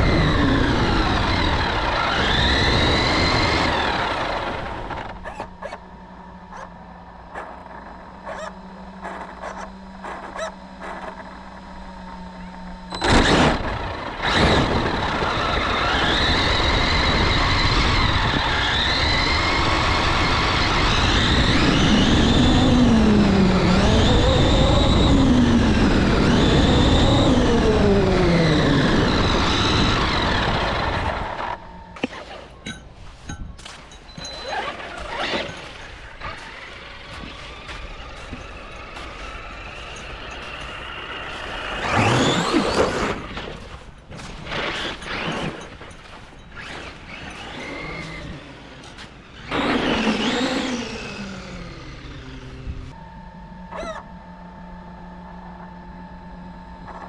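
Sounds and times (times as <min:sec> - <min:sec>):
rc car electric motor whining: 0:00.0 - 0:06.6, 0:08.2 - 0:32.0, 0:34.2 - 0:43.4, 0:46.5 - 0:57.0.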